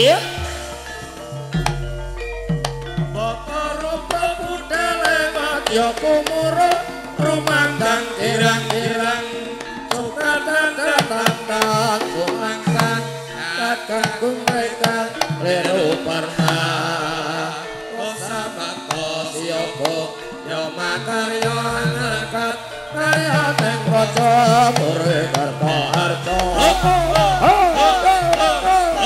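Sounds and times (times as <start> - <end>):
hand drum strokes: 0.0 - 17.0, 21.4 - 29.0
gamelan music: 0.0 - 29.0
metallophone tones: 0.0 - 29.0.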